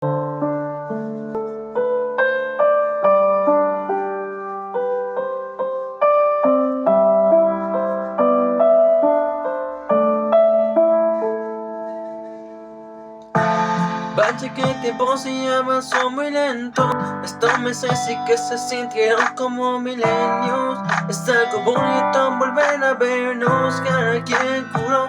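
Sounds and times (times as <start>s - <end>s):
slow solo piano melody: 0.0s - 25.0s.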